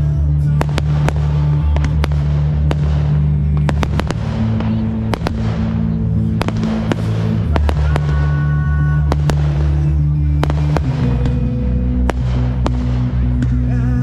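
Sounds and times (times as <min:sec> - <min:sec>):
fireworks banging and crackling: 0:00.0 - 0:14.0
music with heavy bass: 0:00.0 - 0:14.0.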